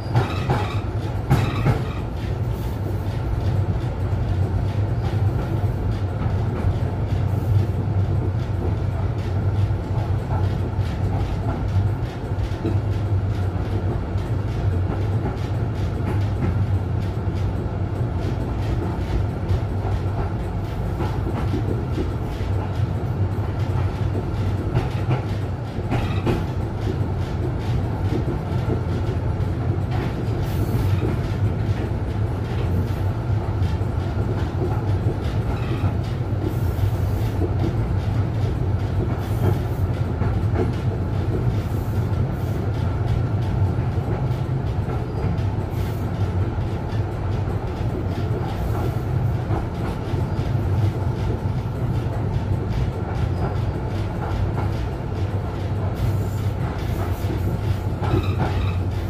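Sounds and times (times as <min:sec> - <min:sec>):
rail joint clicks and rattles: 0:00.0 - 0:59.0
tram wheels rumbling on rails: 0:00.0 - 0:59.0.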